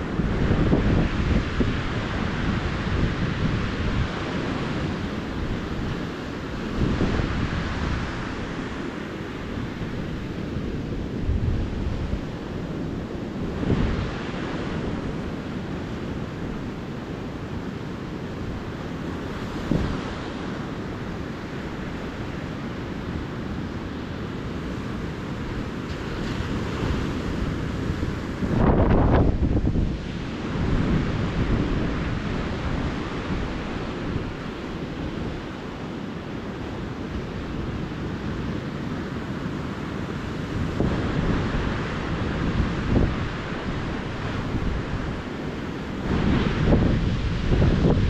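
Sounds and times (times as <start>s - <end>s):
waves breaking on sandy beach: 0.0s - 48.0s
wind rumble on microphone: 0.0s - 48.0s.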